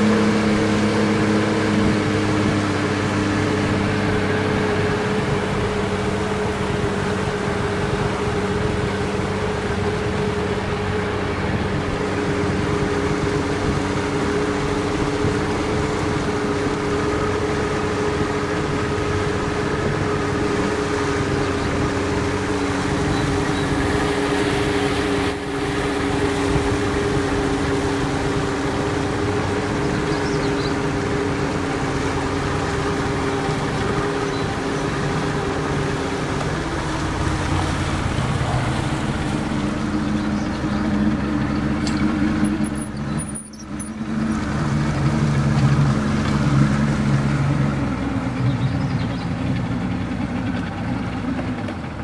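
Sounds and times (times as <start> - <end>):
boat motor humming: 0.0 - 52.0.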